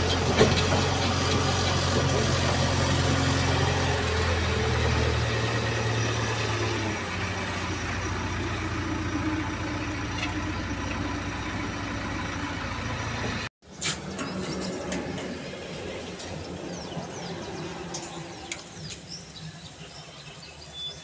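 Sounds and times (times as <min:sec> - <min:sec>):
diesel engine running: 0:00.0 - 0:19.8.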